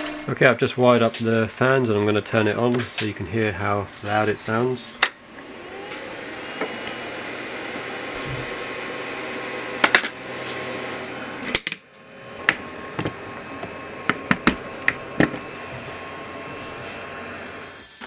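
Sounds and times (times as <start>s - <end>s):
small cooling fans whirring: 0.0s - 18.0s.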